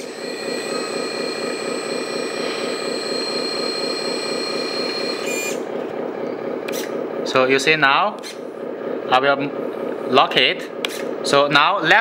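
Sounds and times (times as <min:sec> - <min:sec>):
electric pump whining: 0:00.0 - 0:12.0
low repeating buzz: 0:00.0 - 0:12.0.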